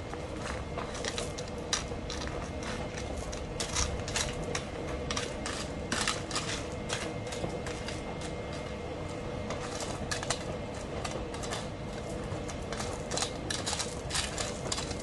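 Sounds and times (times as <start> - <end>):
gravel stones clicking and scraping: 0.1 - 15.0
hand tool digging into gravel: 0.4 - 8.7, 9.5 - 15.0.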